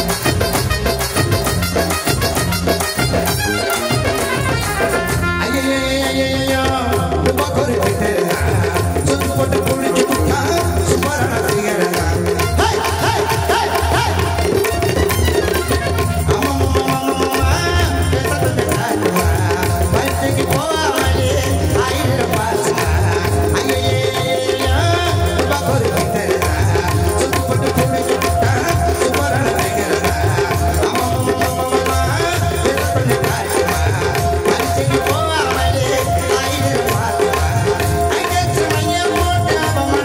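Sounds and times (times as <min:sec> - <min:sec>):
driving percussion rhythm: 0:00.0 - 0:40.0
man singing into a microphone: 0:00.0 - 0:40.0.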